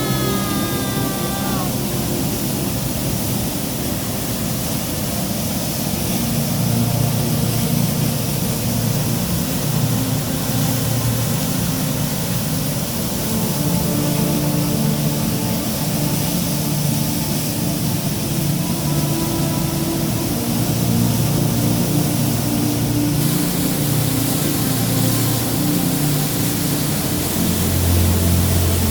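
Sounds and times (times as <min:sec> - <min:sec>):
low engine drone: 0:00.0 - 0:28.9
rushing water: 0:00.0 - 0:28.9.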